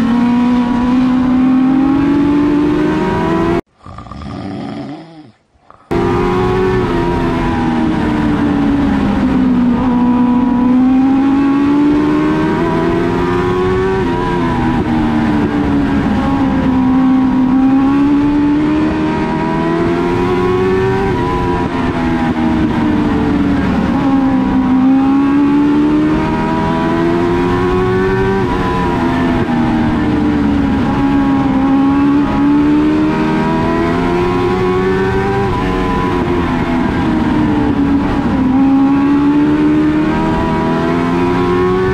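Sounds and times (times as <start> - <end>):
race car engine revving: 0.0 - 3.7, 5.9 - 41.9.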